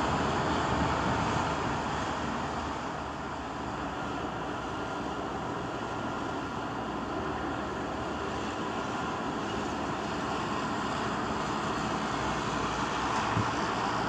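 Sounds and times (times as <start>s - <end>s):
rushing water: 0.0s - 14.0s
ship hum: 0.0s - 14.0s
wind: 0.0s - 14.0s.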